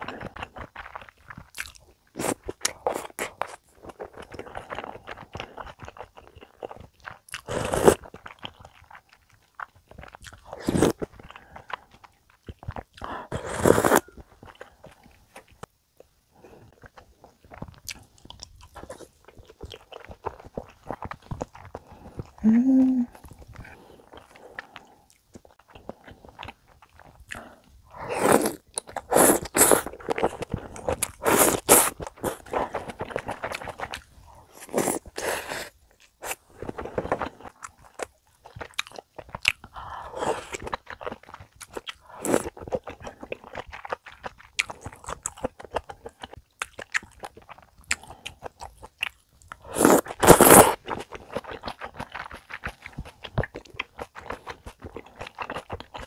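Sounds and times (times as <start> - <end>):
close chewing and wet mouth sounds: 0.0 - 56.0.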